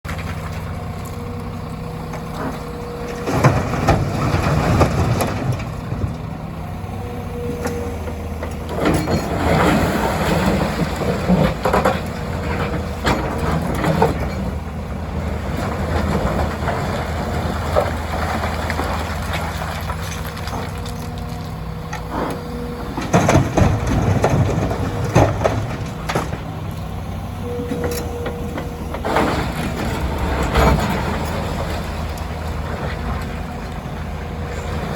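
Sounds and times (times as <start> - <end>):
diesel engines running: 0.0 - 34.9.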